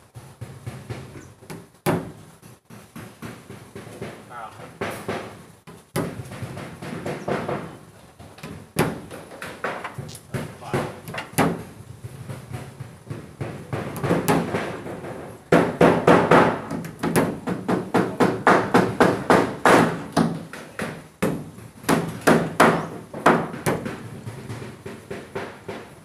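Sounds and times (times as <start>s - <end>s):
hammer striking plywood: 0.1s - 26.0s.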